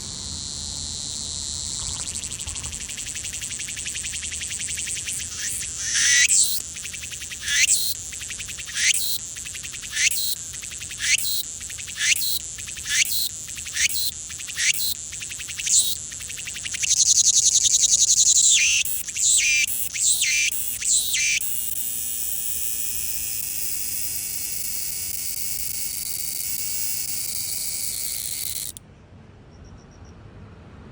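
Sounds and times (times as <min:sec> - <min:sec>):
cicadas buzzing: 0:00.0 - 0:28.8.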